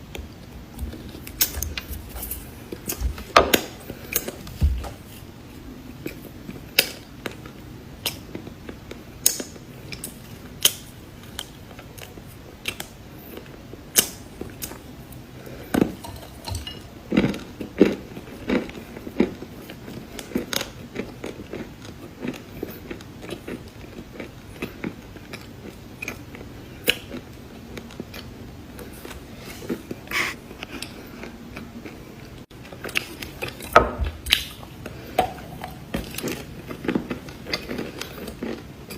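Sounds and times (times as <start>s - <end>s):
chewing crunchy cookies: 0.0s - 38.9s.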